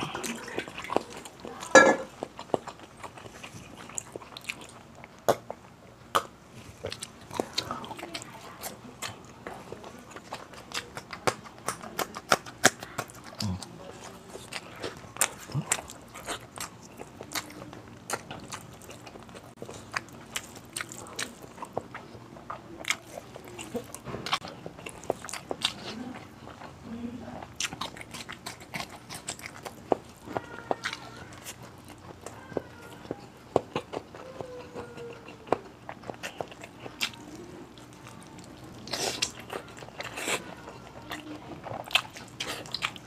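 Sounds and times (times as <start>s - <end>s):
man chewing: 0.0s - 26.8s, 27.4s - 43.0s.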